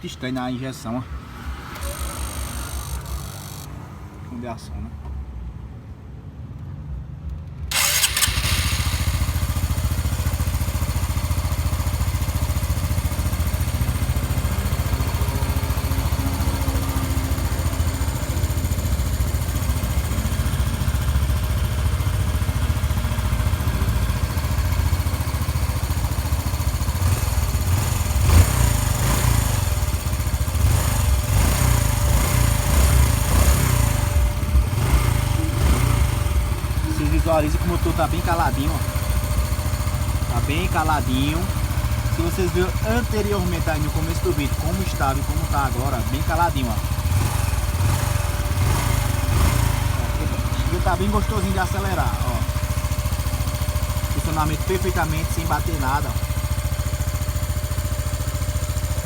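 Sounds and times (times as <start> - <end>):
motorcycle engine running: 1.2 - 3.9, 7.7 - 59.0.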